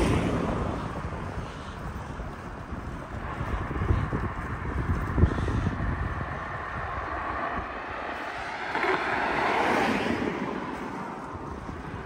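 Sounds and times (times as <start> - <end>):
passing motor vehicle: 0.0 - 12.0
wind on the microphone: 0.0 - 12.0.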